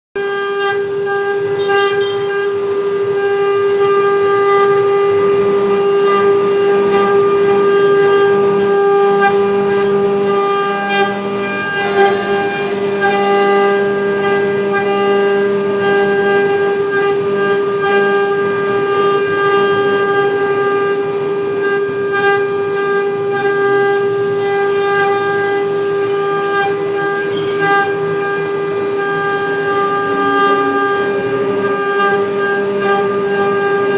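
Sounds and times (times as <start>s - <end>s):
router spindle motors whining: 0.2s - 33.9s
rough shifting machine noise: 0.4s - 33.9s.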